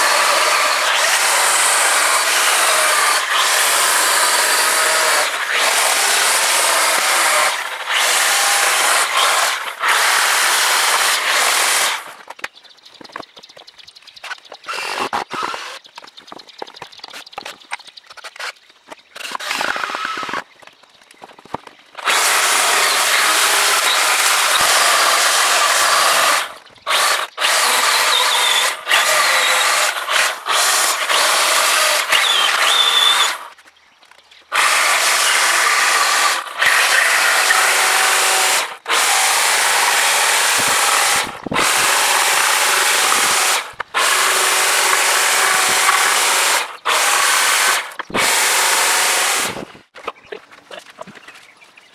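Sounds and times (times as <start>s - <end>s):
cordless drill through wood: 0.0s - 12.2s, 14.7s - 15.8s, 19.2s - 20.4s, 22.0s - 33.6s, 34.5s - 49.8s
electric chainsaw cutting wood: 0.0s - 12.3s, 14.7s - 15.8s, 19.2s - 20.4s, 22.0s - 33.6s, 34.5s - 49.8s.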